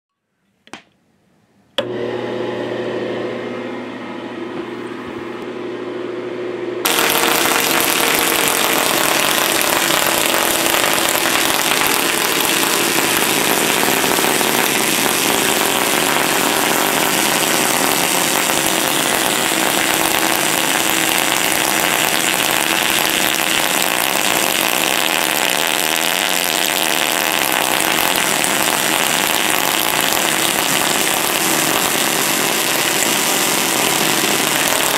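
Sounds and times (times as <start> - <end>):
high-voltage sparks crackling: 6.8 - 34.9.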